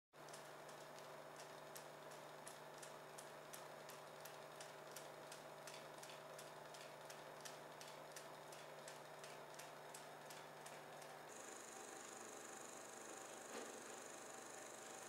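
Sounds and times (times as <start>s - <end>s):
film projector hum: 0.2s - 15.0s
projector ticking: 0.2s - 15.0s.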